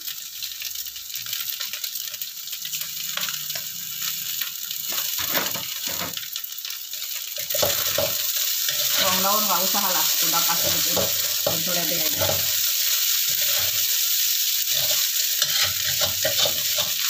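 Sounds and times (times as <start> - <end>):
noodles sizzling in a wok: 0.0 - 17.0
spatula scraping wok: 1.6 - 6.2, 7.0 - 17.0.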